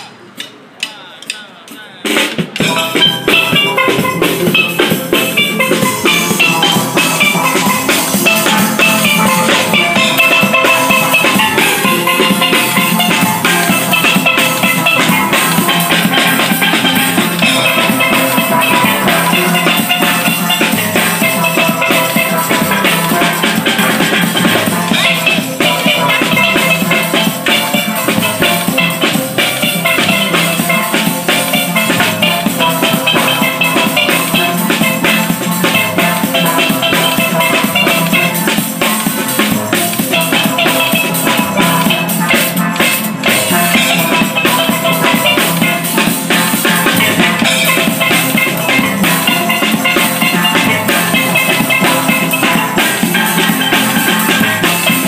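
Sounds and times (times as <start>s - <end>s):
steel band playing: 0.0s - 55.0s.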